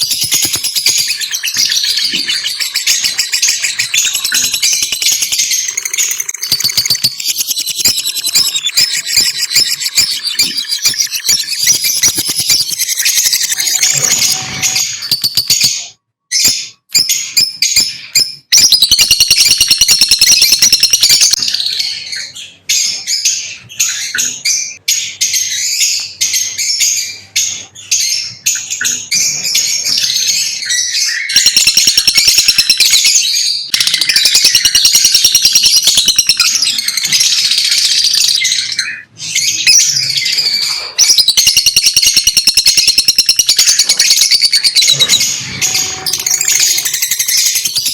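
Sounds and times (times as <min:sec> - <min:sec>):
lovebirds chirping and chattering: 0:00.0 - 0:47.9.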